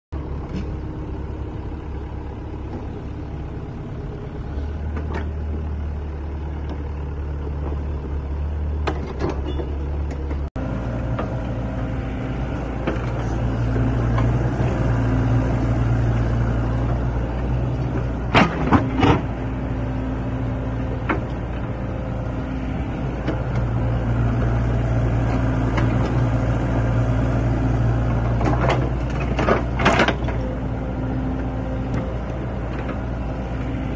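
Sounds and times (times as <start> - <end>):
excavator diesel engine: 0.1 - 33.9.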